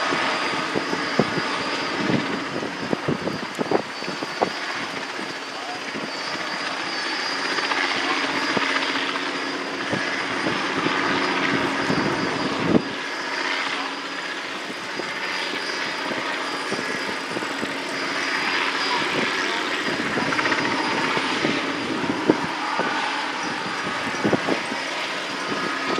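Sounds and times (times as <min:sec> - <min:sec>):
helicopter rotor drone: 0:00.0 - 0:25.9.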